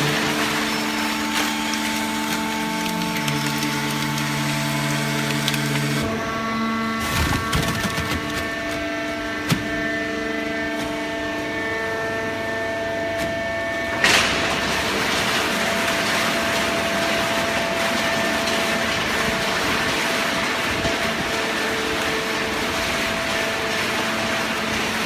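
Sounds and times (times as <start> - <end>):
hydraulic pump whining: 0.0 - 25.0.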